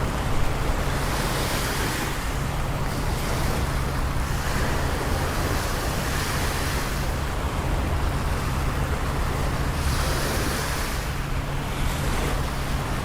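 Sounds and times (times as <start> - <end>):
low rumble of city traffic: 0.0 - 13.0.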